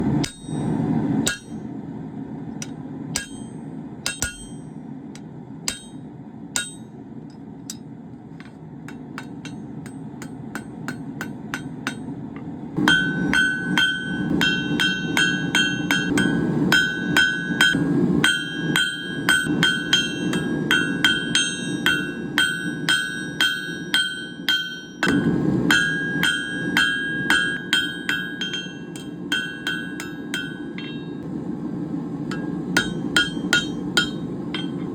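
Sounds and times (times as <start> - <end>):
hammer striking steel on anvil: 0.2 - 1.7, 2.6 - 31.2, 32.3 - 34.9.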